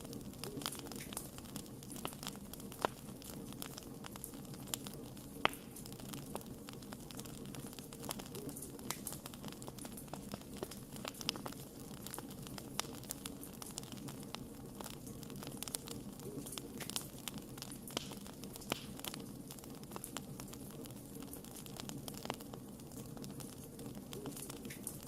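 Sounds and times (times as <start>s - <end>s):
fire crackling and popping: 0.0s - 25.0s
flames rumbling: 0.0s - 25.0s.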